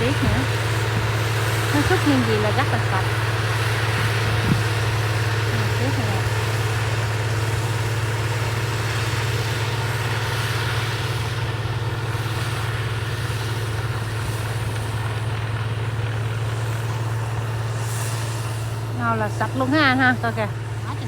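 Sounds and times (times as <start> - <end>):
snow blower engine droning: 0.0 - 21.0.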